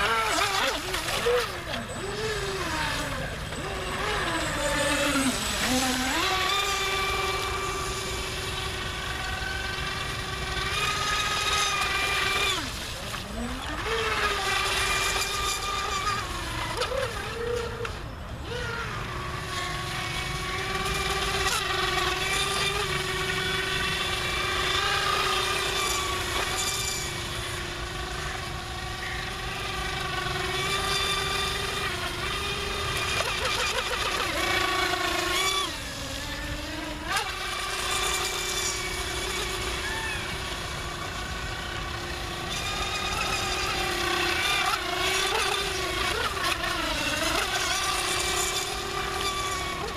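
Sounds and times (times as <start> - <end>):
electric motor whining: 0.0 - 49.9.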